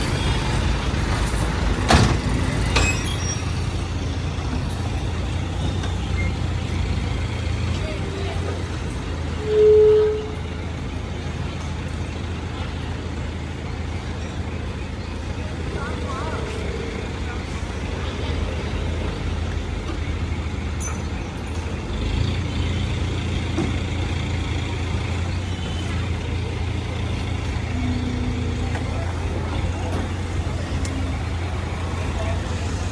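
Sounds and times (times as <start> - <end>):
heavy vehicle rumbling: 0.0 - 32.9
road noise: 0.0 - 32.9.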